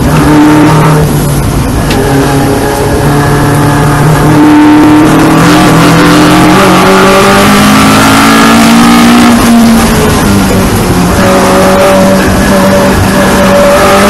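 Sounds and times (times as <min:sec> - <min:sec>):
racing engine accelerating: 0:00.0 - 0:14.0.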